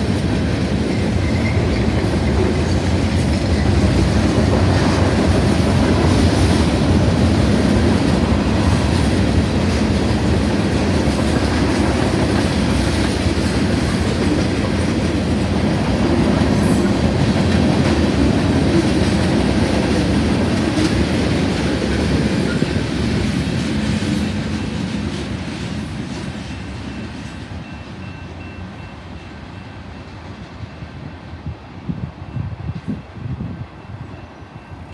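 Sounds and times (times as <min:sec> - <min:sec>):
freight train wheels rumbling on track: 0:00.0 - 0:34.9.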